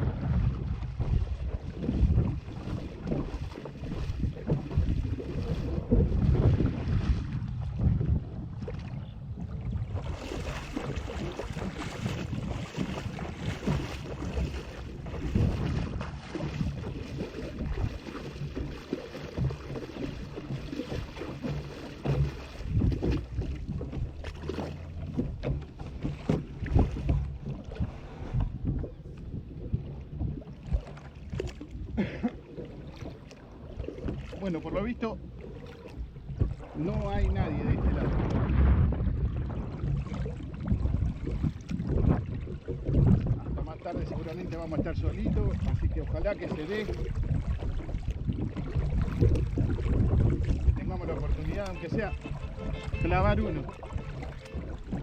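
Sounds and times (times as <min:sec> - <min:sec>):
wind gusting on microphone: 0:00.0 - 0:18.1, 0:22.1 - 0:24.2, 0:25.1 - 0:32.0, 0:34.0 - 0:55.0
kayak paddling on water: 0:00.0 - 0:55.0.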